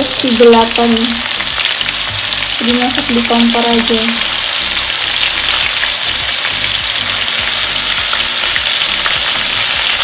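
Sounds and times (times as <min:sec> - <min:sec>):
oil popping and crackling: 0:00.0 - 0:10.0
shrimp sizzling in hot oil: 0:00.0 - 0:10.0.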